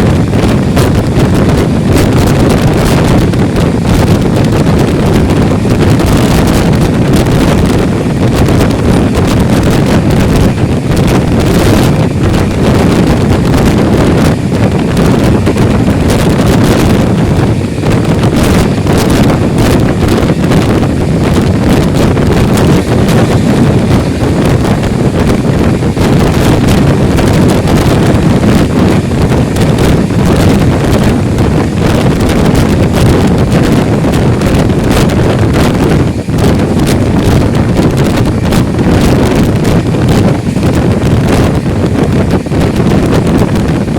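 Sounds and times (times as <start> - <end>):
train rumbling at speed: 0.0 - 43.9
wind buffeting microphone: 0.0 - 43.9.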